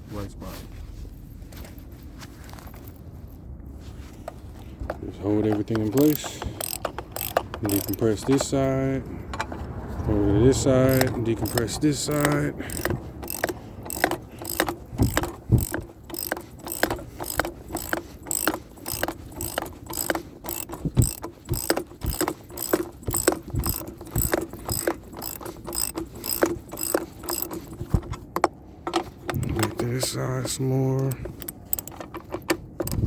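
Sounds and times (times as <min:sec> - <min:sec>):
hand ratchet clicking: 0:05.3 - 0:09.5, 0:10.6 - 0:33.0.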